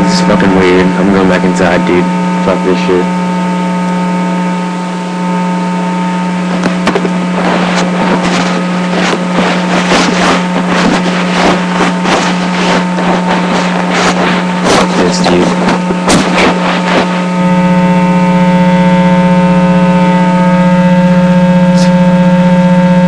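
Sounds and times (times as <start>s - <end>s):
crackling noise: 0.0s - 23.0s
low buzzing hum: 0.0s - 23.0s.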